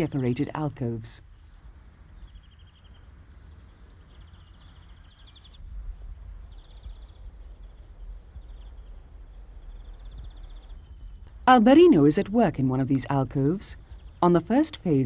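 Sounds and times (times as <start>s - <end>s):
small birds trilling: 0.0s - 15.0s
steady low rumble: 0.0s - 15.0s.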